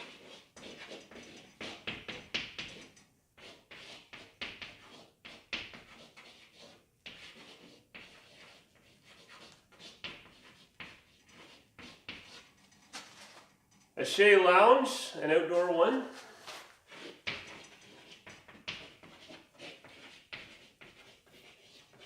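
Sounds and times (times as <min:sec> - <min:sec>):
pen scratching on paper: 0:00.0 - 0:12.5, 0:16.2 - 0:22.0.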